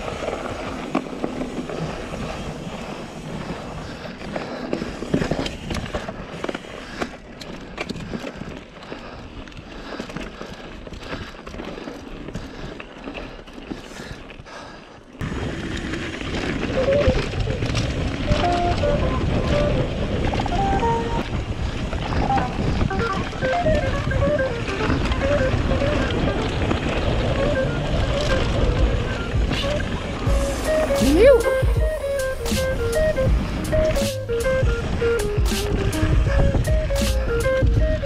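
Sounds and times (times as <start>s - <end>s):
bike clicking and rattling over bumps: 0.0s - 38.0s
bike tyres rolling on dirt trail: 0.0s - 38.0s.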